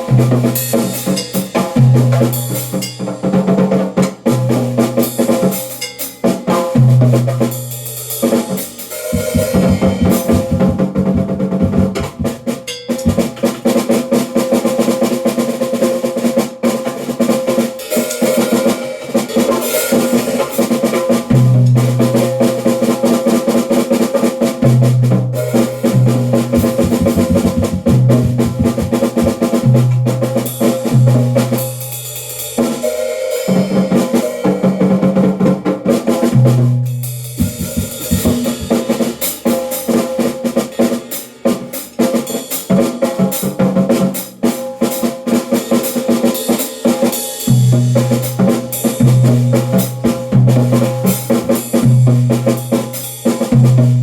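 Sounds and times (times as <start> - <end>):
drum kit rolls and fills: 0.0 - 54.0.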